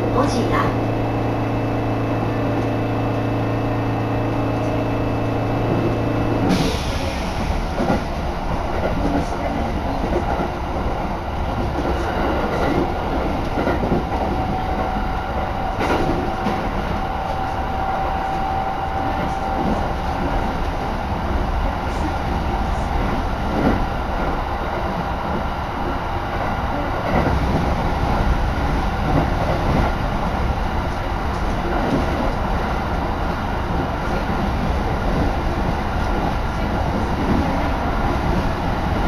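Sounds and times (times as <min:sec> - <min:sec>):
train carriage hum: 0:00.0 - 0:39.0
wheels rumbling on rails: 0:00.0 - 0:39.0.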